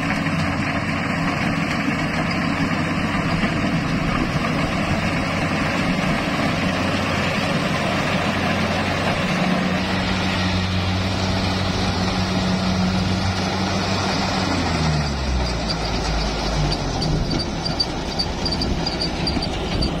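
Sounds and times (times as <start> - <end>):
combine harvester humming: 0.0 - 20.0.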